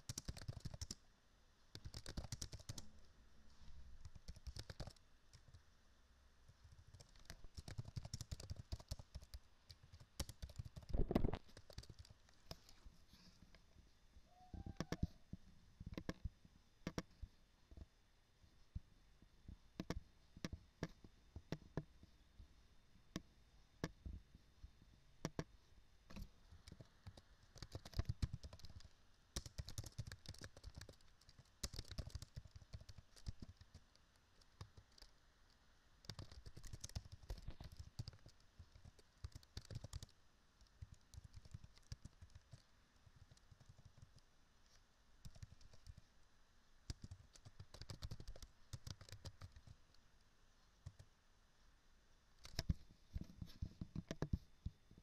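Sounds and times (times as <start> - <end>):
faint keyboard typing: 0.0 - 1.0, 1.7 - 3.0, 4.0 - 5.7, 6.5 - 13.7, 14.6 - 17.9, 19.8 - 22.0, 25.2 - 25.5, 26.1 - 46.2, 46.9 - 51.2, 52.4 - 55.0.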